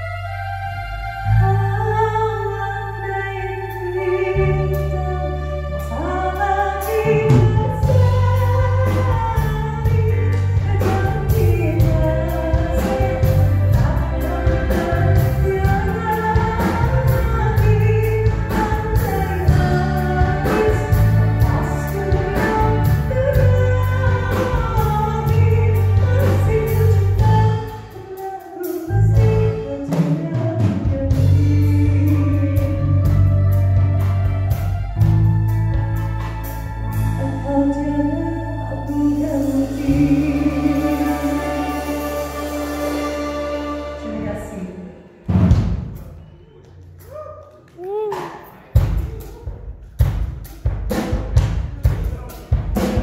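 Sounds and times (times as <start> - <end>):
live rock band playing: 4.4 - 44.4, 50.0 - 53.0.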